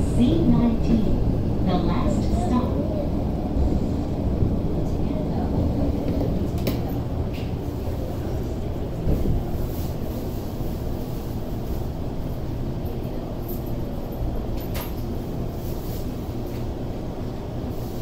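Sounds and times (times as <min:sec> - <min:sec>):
subway wheels rumbling: 0:00.0 - 0:18.0.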